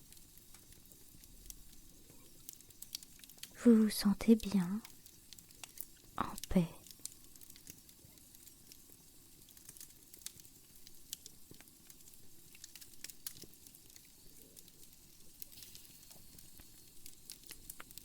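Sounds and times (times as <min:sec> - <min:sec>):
low rumble of flames: 0:00.0 - 0:18.0
wood fire pops and snaps: 0:00.0 - 0:18.0.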